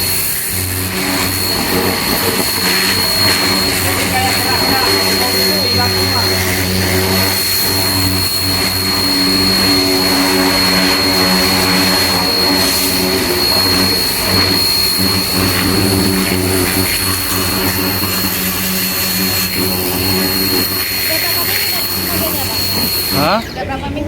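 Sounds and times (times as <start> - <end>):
water jet hissing: 0.0 - 23.5
pressure washer motor hum: 0.0 - 23.6.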